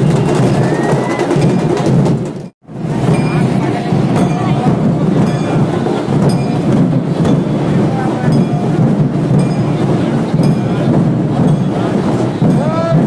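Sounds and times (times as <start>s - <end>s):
crowd shouting and talking: 0.0s - 13.0s
sharp beat: 0.0s - 13.0s.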